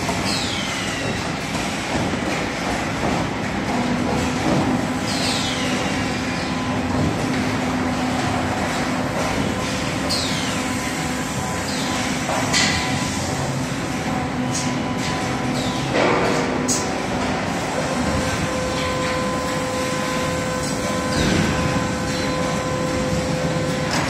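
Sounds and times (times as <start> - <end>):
steady factory hum: 0.0 - 24.0.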